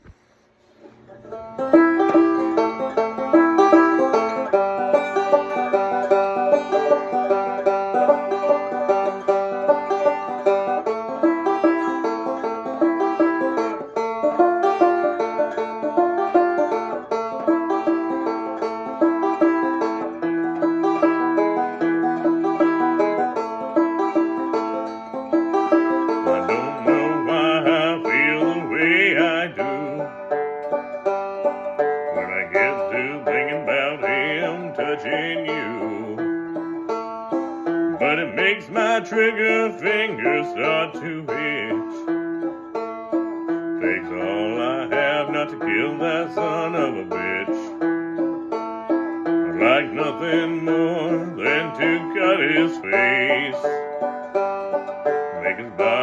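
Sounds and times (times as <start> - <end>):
string band backing: 0.0 - 56.0
banjo fast rolling picking: 0.9 - 56.0.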